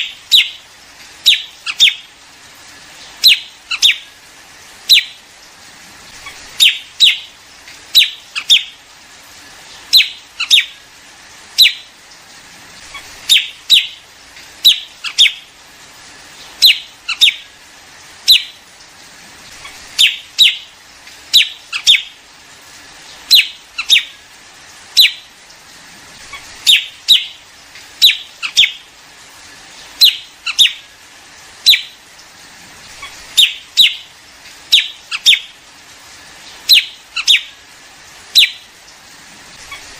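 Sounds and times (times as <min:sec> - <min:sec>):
songbird chirping: 0:00.0 - 0:15.6, 0:16.2 - 0:18.8, 0:19.5 - 0:22.3, 0:22.9 - 0:32.3, 0:32.9 - 0:35.7, 0:36.3 - 0:38.8.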